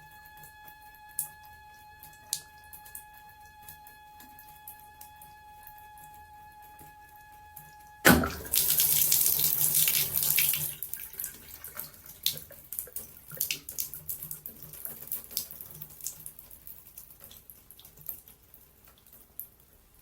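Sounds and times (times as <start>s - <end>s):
running water: 0.0s - 20.0s
water dripping and splashing: 0.0s - 20.0s.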